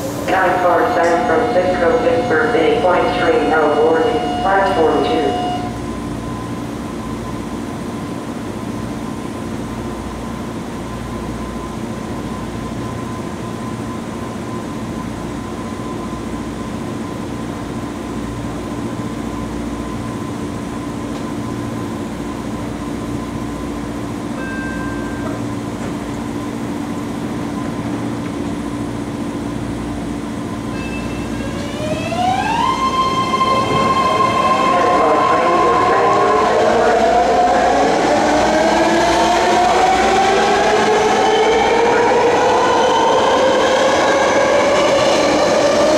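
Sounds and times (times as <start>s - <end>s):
electric train propulsion whine: 0.0s - 45.9s
train humming and rumbling: 0.0s - 45.9s.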